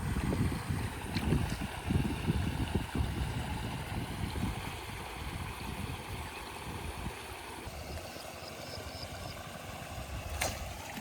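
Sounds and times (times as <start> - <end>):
wind buffeting the microphone: 0.0 - 10.8.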